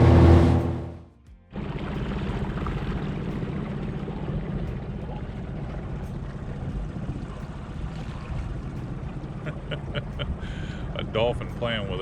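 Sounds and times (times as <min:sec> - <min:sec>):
outboard motor running: 0:00.0 - 0:12.0
water noise: 0:00.0 - 0:12.0
wind: 0:00.0 - 0:12.0.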